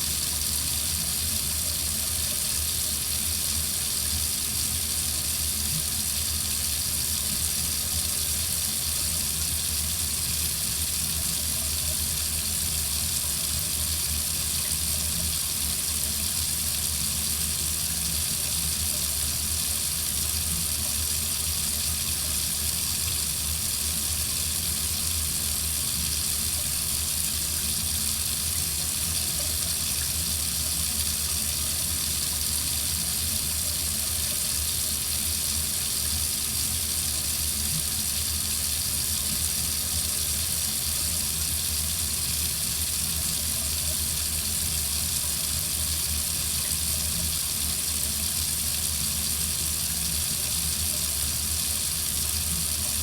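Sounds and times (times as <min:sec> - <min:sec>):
tap water running into sink: 0:00.0 - 0:53.0.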